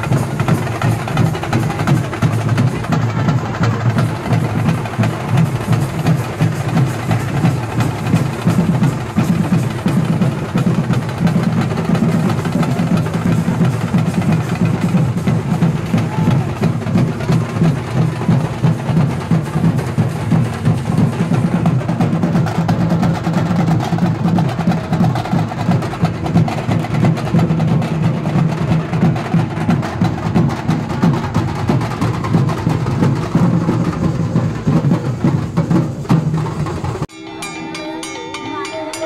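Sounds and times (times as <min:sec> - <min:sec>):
frame drums beaten fast: 0:00.0 - 0:37.1.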